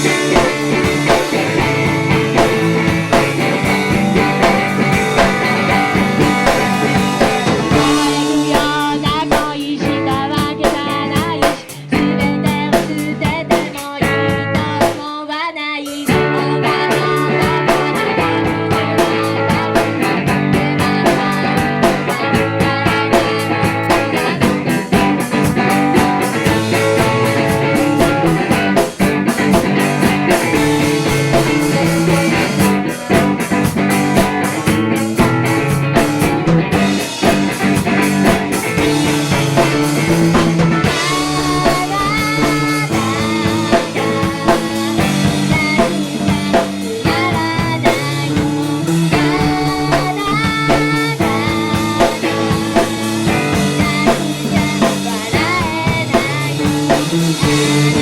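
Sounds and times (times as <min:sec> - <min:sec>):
bass guitar: 0:00.0 - 0:15.0, 0:16.0 - 0:58.0
drum kit: 0:00.0 - 0:58.0
electric guitar: 0:00.0 - 0:58.0
singing or lead melody: 0:00.0 - 0:58.0.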